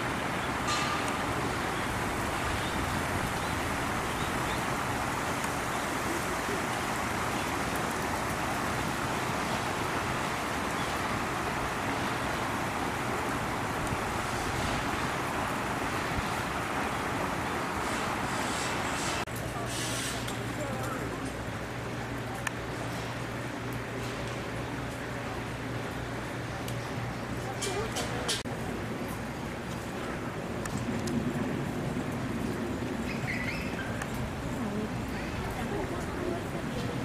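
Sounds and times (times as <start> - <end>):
outdoor background rushing hum: 0.0 - 37.0.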